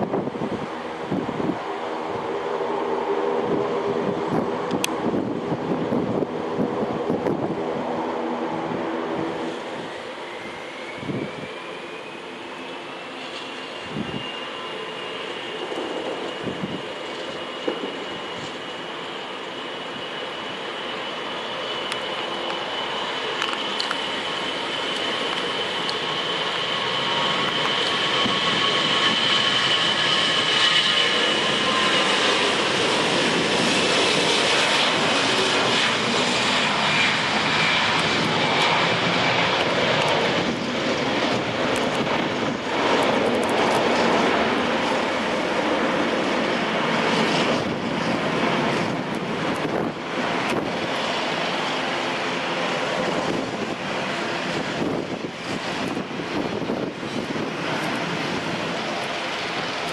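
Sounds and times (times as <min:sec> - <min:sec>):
engine whine: 0:00.0 - 0:59.9
jet engines roaring: 0:00.0 - 0:59.9.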